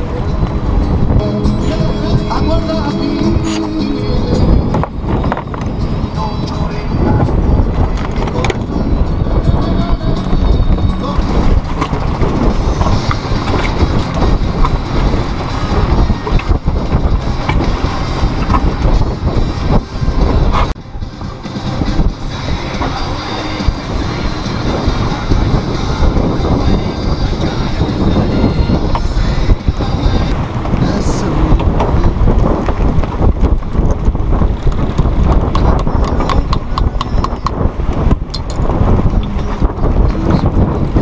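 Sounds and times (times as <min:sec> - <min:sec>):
boat rushing through water: 0:00.0 - 0:41.0
wind buffeting microphone: 0:00.0 - 0:41.0.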